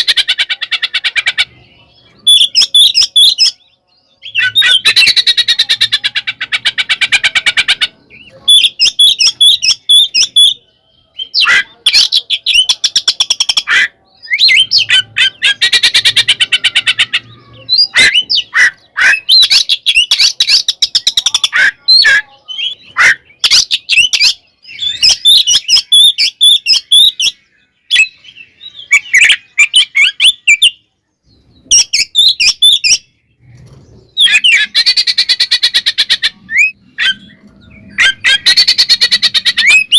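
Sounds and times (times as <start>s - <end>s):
songbird singing with rattling chatter: 0.0s - 39.9s.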